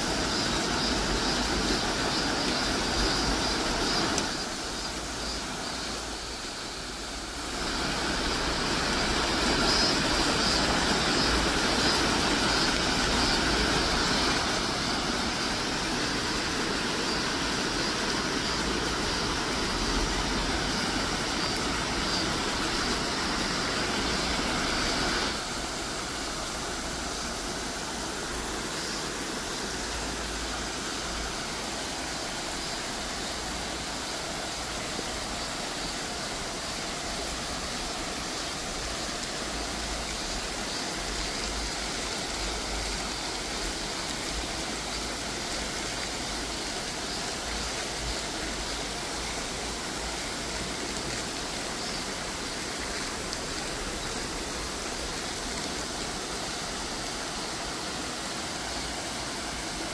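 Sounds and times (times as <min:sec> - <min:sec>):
stream water running over stones: 0:00.0 - 0:59.9.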